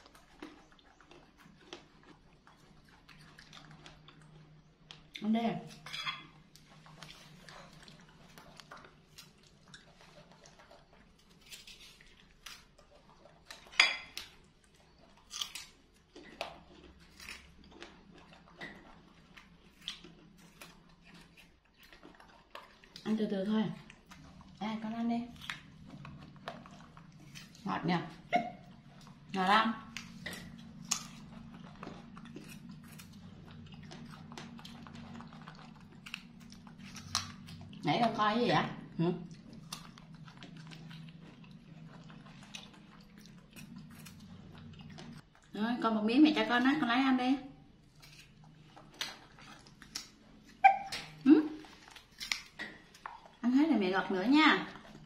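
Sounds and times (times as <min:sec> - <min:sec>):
monkey chewing fruit: 0:00.0 - 0:55.0.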